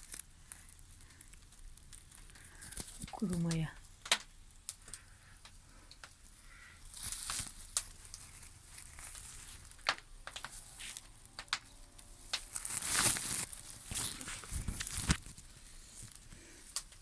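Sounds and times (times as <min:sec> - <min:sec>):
corn husks rustling and knocking: 0:00.0 - 0:05.1, 0:05.9 - 0:17.0.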